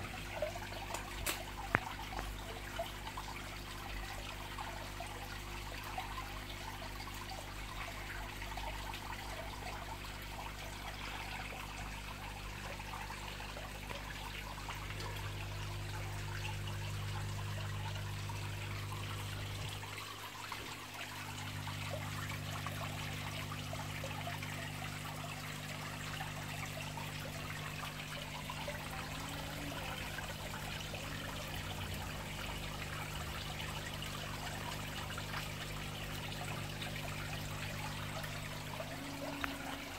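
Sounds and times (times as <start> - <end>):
low steady hum: 0.0 - 39.9
water trickling and splashing: 0.0 - 39.9.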